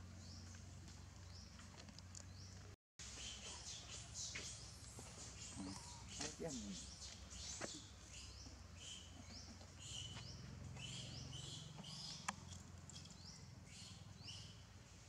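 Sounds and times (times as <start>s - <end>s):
faint bird chirping: 0.1s - 14.7s.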